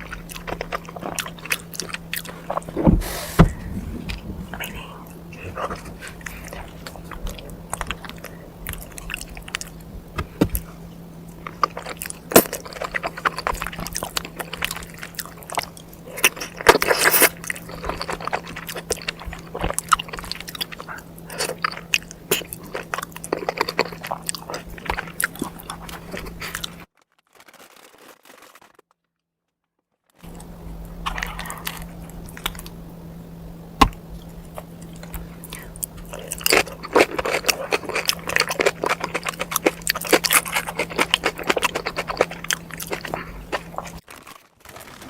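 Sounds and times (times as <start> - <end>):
steady low hum: 0.0 - 26.9, 30.2 - 44.1
chewing and biting: 0.0 - 28.5, 30.2 - 45.0.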